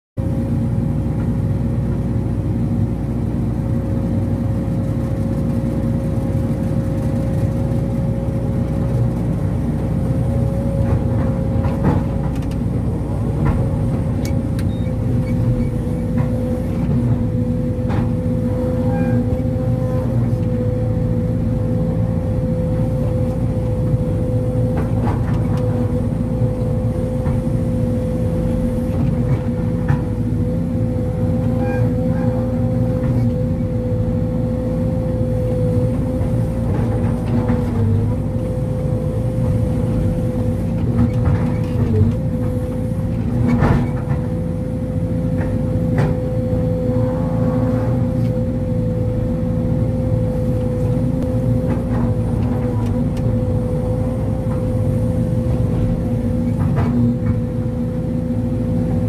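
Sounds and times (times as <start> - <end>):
excavator engine rumble: 0.2 - 59.0
hydraulic whine: 10.0 - 59.0.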